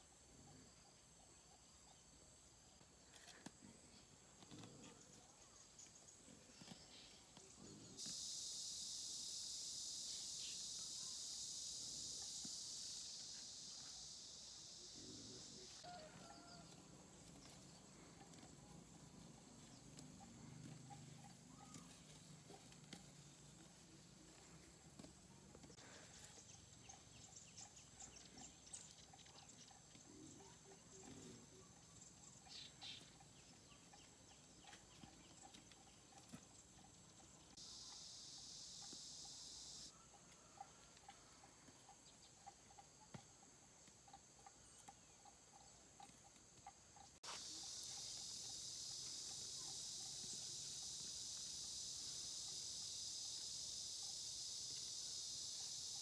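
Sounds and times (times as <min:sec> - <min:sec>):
farmyard animal sounds: 0:02.8 - 0:56.0
high insect drone: 0:04.9 - 0:56.0.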